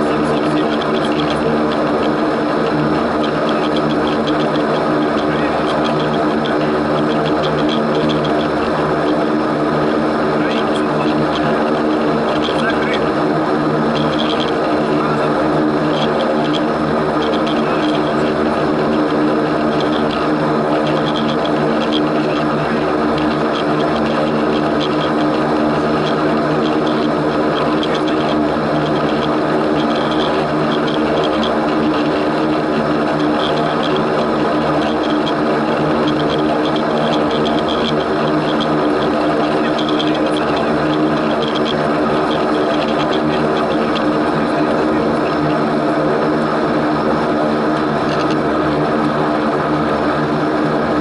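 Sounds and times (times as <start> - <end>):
turboprop engines droning: 0.0 - 51.0.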